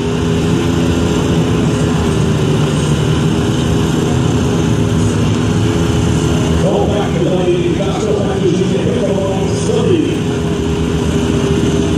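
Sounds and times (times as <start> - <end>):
car engines idling: 0.0 - 11.9.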